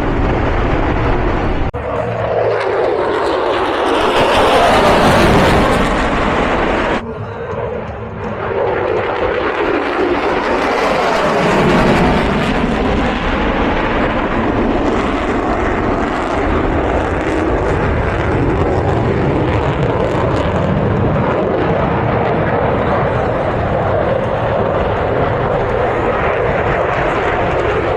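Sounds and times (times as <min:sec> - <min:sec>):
plane flying past: 0:00.0 - 0:27.9.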